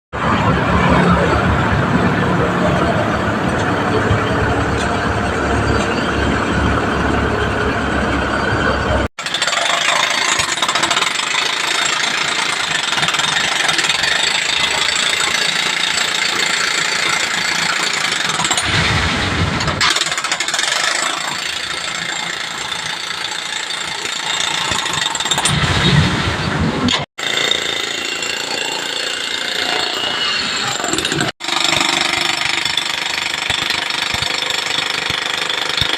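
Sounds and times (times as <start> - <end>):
construction machinery noise: 0.2 - 35.9.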